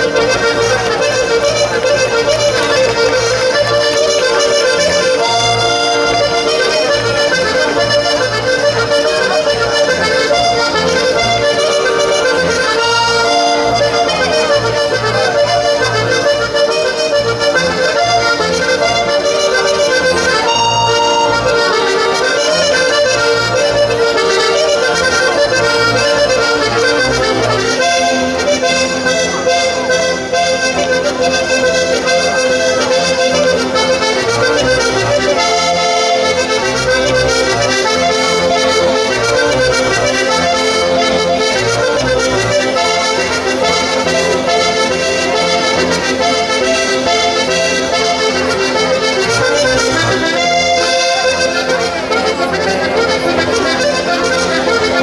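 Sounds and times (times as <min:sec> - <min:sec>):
accordion dance tune: 0:00.0 - 0:55.0.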